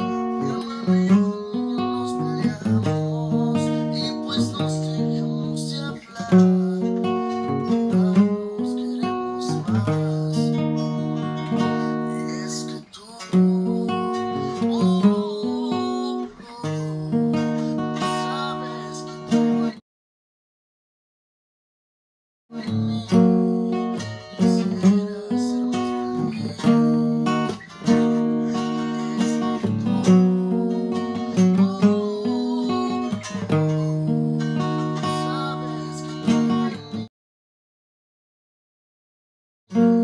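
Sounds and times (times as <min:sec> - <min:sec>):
acoustic guitar strumming chords: 0:00.0 - 0:19.8, 0:22.5 - 0:37.1, 0:39.7 - 0:40.0.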